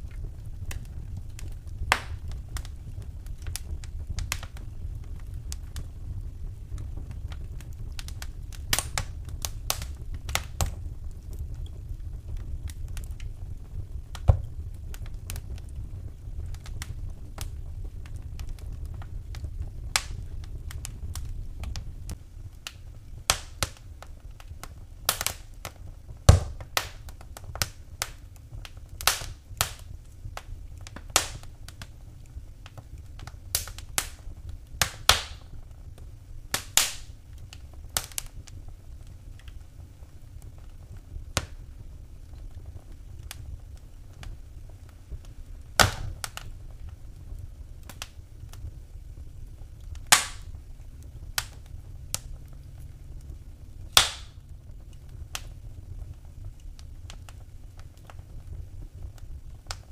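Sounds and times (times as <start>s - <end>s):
low steady rumble: 0.0s - 59.9s
wood fire crackling and popping: 0.0s - 59.9s.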